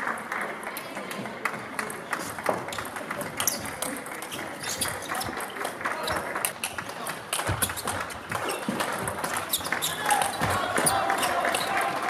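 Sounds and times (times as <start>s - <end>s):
voices in a large hall: 0.0s - 12.0s.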